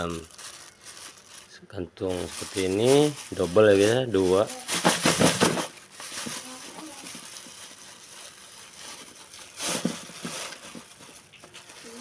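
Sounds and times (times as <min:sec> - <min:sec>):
plastic bag of ice crinkling: 0:00.0 - 0:12.0.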